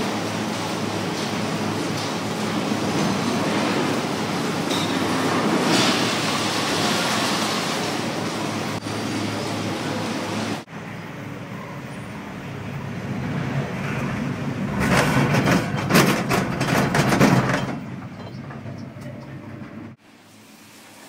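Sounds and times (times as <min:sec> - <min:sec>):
gondola cabin hum and rumble: 0:00.0 - 0:20.0.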